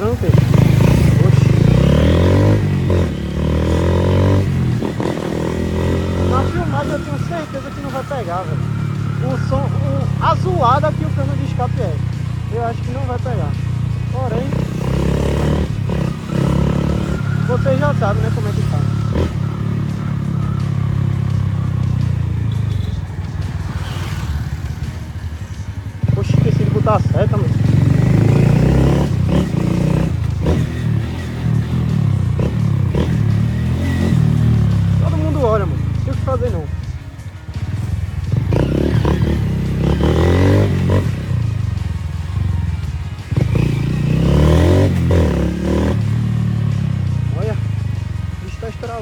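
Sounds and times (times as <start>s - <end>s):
single-cylinder motorcycle engine: 0.0s - 49.0s.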